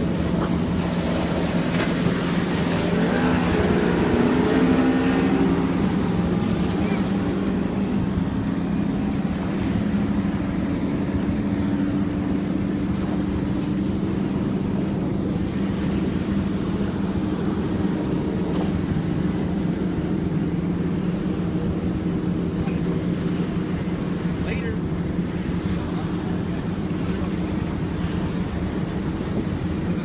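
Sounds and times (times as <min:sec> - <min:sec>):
motorboat engine running: 0:00.0 - 0:30.0
water rushing: 0:00.0 - 0:30.0.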